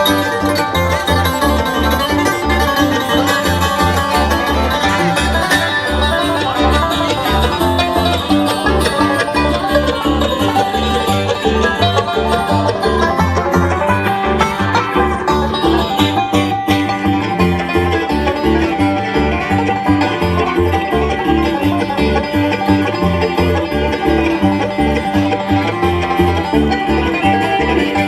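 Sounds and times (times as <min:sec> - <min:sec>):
bluegrass band playing: 0:00.0 - 0:28.0.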